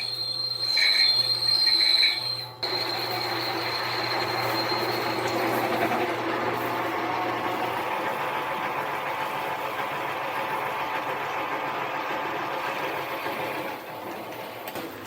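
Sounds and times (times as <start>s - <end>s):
drill bit boring metal: 0.0s - 14.0s
lathe running: 0.0s - 14.7s.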